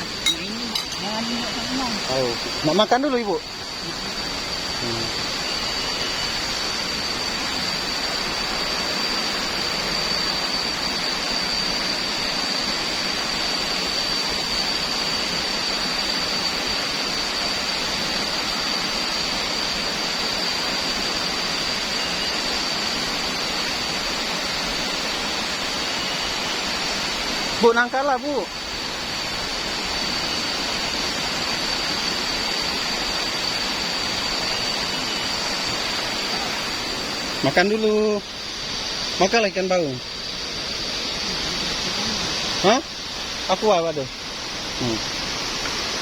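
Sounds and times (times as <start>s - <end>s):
high-pitched whine: 0.0s - 46.0s
waterfall roaring: 0.0s - 46.0s.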